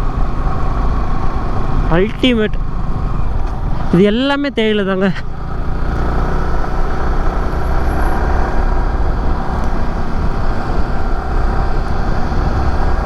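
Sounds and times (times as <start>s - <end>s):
wind rumble on microphone: 0.0s - 4.3s, 5.4s - 13.0s
motorcycle engine cruising: 0.0s - 13.0s.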